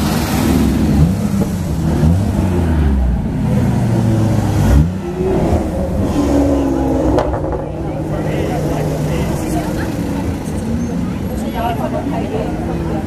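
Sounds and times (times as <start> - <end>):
sports car engines revving: 0.0 - 13.0.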